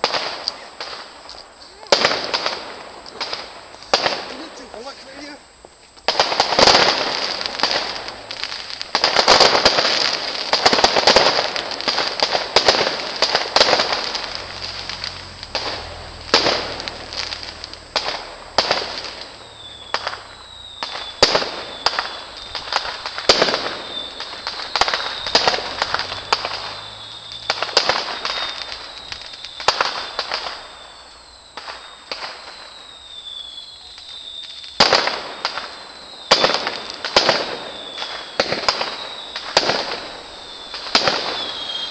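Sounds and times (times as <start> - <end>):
falling firework whistles: 0.0 - 41.9
firework shells bursting: 0.0 - 41.9.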